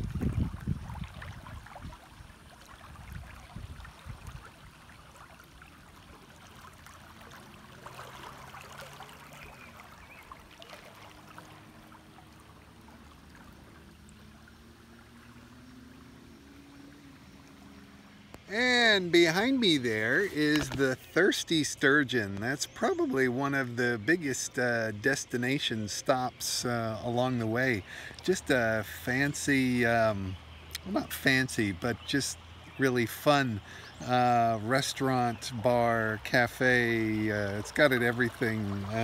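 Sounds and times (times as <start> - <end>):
river rippling over riffles: 0.0 - 39.0.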